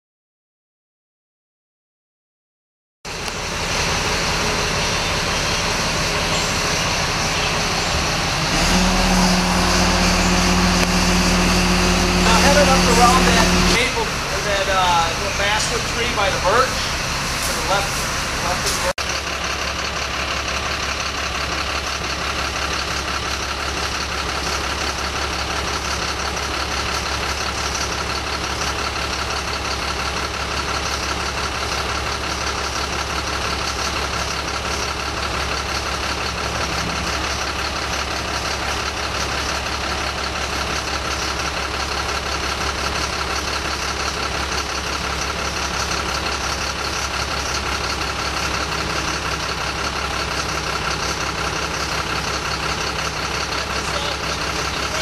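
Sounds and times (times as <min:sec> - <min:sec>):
truck engine idling: 0:03.1 - 0:55.0.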